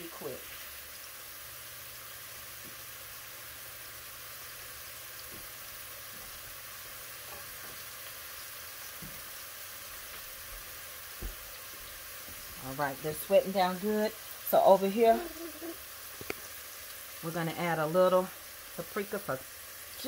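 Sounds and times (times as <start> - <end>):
food sizzling in butter: 0.0 - 20.0.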